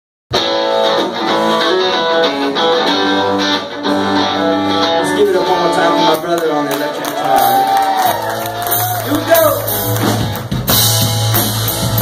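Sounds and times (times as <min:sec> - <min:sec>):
bass guitar: 0:00.3 - 0:12.0
live band playing: 0:00.3 - 0:12.0
strummed guitars: 0:00.3 - 0:12.0.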